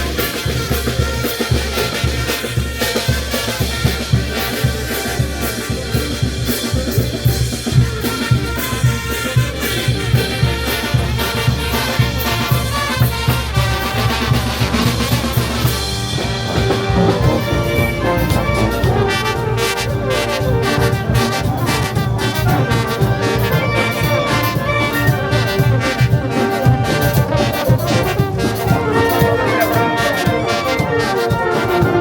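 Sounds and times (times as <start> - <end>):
brass band playing: 0.0 - 32.0
drum beat: 0.0 - 32.0.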